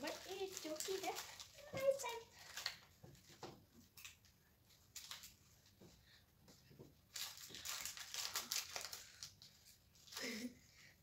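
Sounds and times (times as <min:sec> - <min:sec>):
plastic wrapper crinkling: 0:00.0 - 0:05.8, 0:07.0 - 0:10.4.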